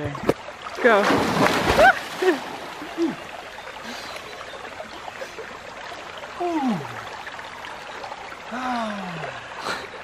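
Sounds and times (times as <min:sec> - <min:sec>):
creek rushing: 0:00.1 - 0:10.0.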